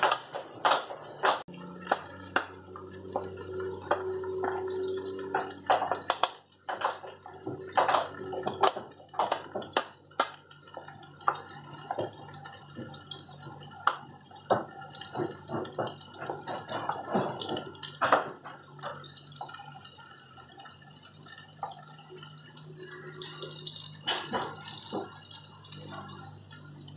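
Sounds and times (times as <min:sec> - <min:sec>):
low steady hum: 0:01.2 - 0:26.9.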